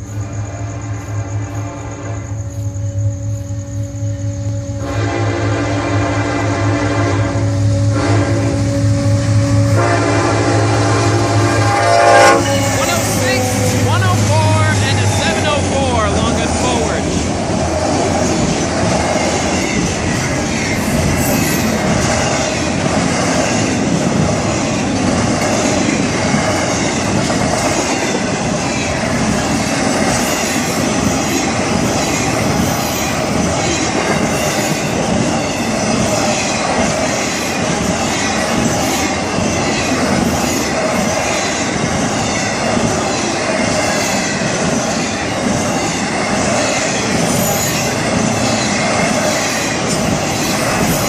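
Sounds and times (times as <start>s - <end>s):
freight train wheels on rails: 0.0s - 51.0s.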